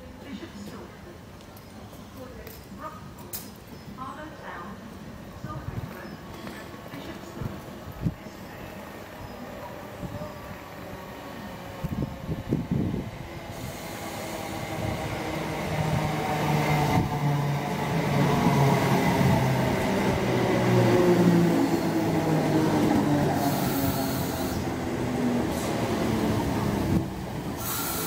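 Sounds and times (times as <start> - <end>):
electric train arriving: 5.0 - 28.0.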